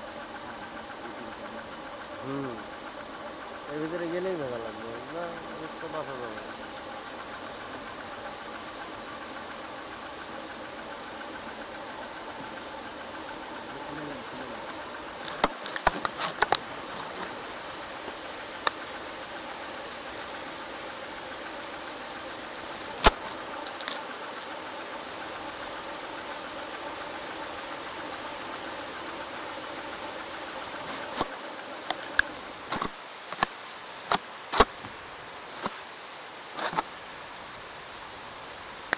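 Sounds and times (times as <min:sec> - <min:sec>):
motorcycle engine running: 0:00.0 - 0:32.8
rain hissing: 0:00.0 - 0:38.9.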